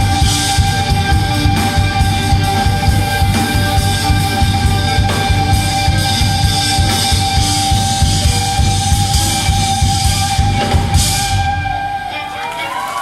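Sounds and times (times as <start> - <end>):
held electric guitar note: 0.0 - 12.8
fast dense drumming: 0.0 - 12.9.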